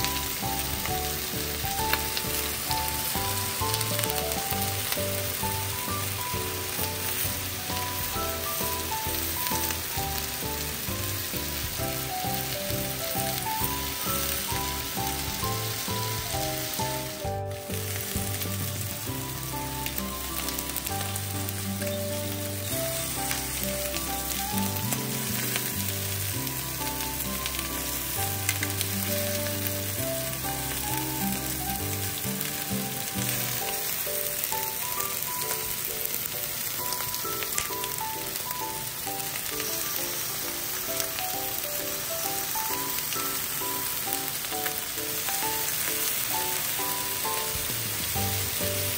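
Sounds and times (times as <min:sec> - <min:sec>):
background music: 0:00.0 - 0:48.9
skewers sizzling in a frying pan: 0:00.0 - 0:48.9.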